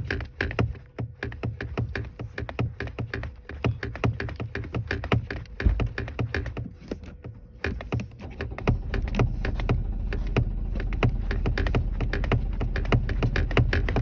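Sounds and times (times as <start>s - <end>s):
sharp irregular clicks and knocks: 0.0s - 14.0s
van engine rumble: 0.0s - 14.0s.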